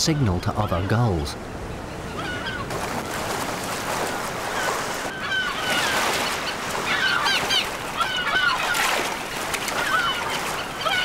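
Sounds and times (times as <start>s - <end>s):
gulls squawking: 0.0s - 11.0s
sea noise: 0.0s - 11.0s.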